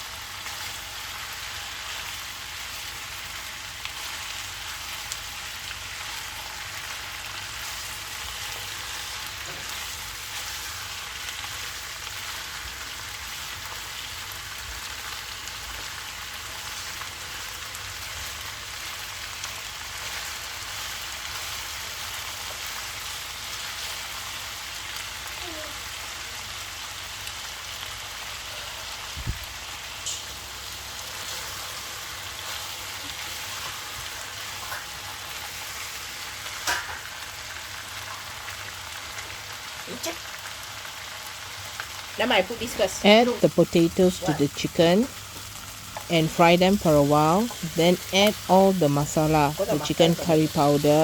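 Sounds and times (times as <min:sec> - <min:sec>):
chicken sizzling in oil: 0:00.0 - 0:51.0.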